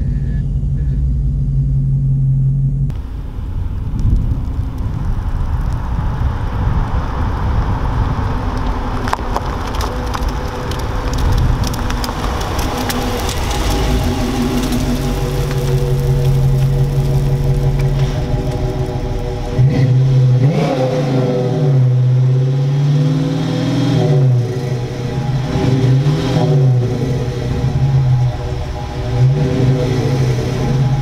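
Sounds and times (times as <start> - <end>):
car exhaust rumble passing: 0.0 - 31.0.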